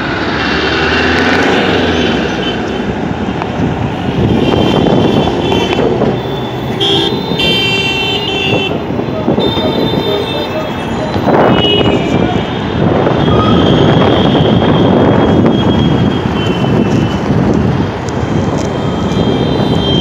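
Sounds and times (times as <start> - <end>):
wind rushing over microphone: 0.0 - 6.3, 7.1 - 20.0
road traffic rumble: 0.0 - 20.0.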